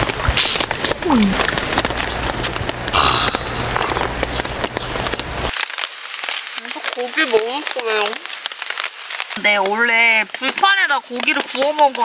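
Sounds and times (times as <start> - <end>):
heavy rain on awning: 0.0 - 12.0.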